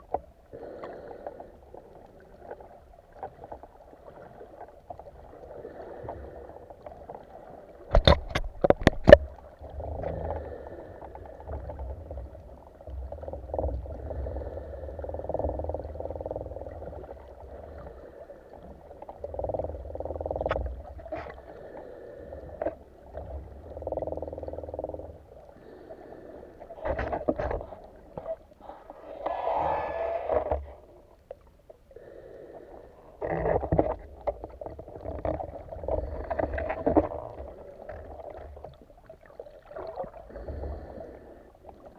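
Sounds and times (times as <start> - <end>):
muffled underwater water noise: 0.0 - 41.9.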